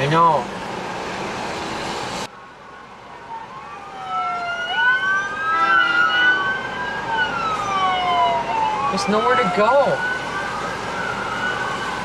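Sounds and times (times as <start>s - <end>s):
emergency vehicle sirens wailing: 0.0s - 12.0s.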